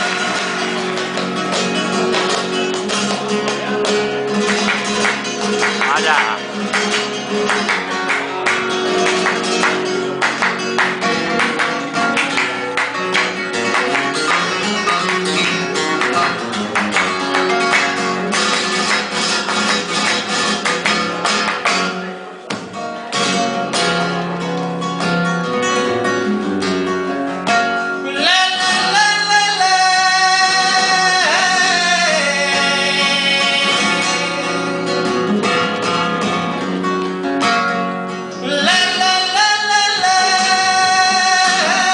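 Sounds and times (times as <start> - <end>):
flamenco guitar playing: 0.0 - 41.9.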